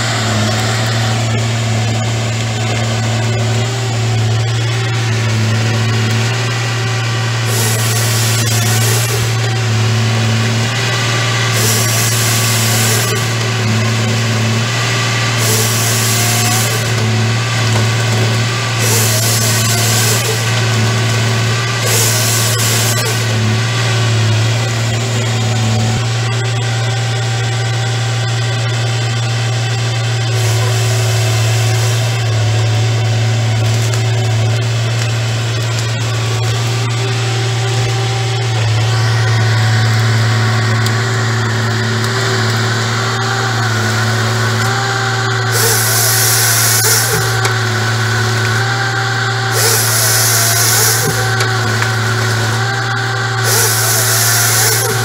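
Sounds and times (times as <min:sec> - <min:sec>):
chainsaw cutting through logs: 0:00.0 - 0:55.0
diesel engine and hydraulics running: 0:00.0 - 0:55.0.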